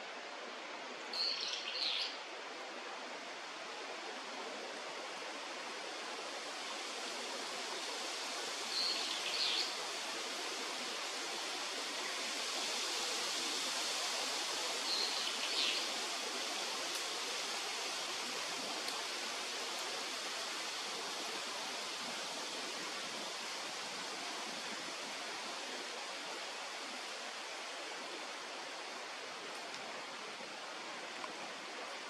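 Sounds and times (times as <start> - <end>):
flowing water rushing: 2.2 - 32.0.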